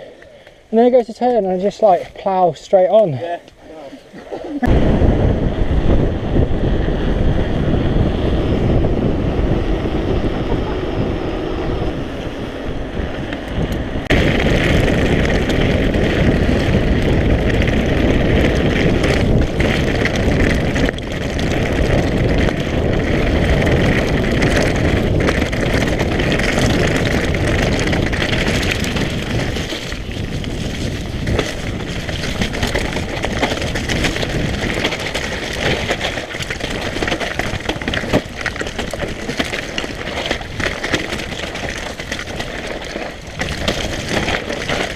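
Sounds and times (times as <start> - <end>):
bike rattling on rough trail: 4.0 - 44.9
wind on microphone: 4.6 - 44.9.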